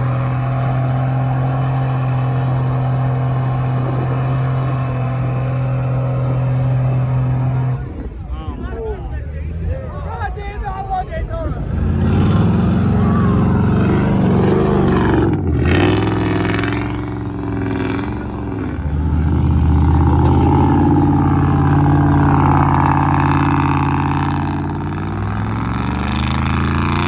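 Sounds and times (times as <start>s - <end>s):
truck engine revving: 0.0s - 8.1s, 11.6s - 27.0s.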